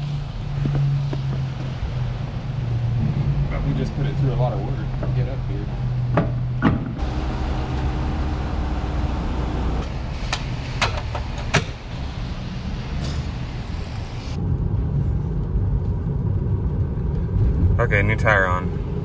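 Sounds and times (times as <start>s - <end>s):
muffled road and engine rumble: 0.0s - 19.0s
vehicle rumble: 0.0s - 19.0s.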